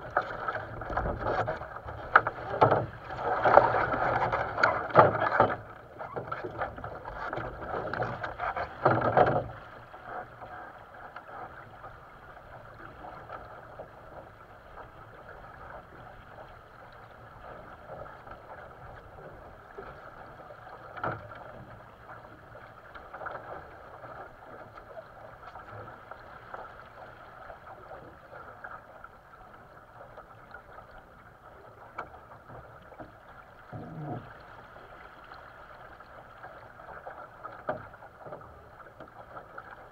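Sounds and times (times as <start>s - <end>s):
boat knocks: 0.0s - 31.1s, 31.8s - 34.6s, 36.4s - 39.9s
water splashing: 0.0s - 39.9s
water washing along hull: 0.0s - 39.9s.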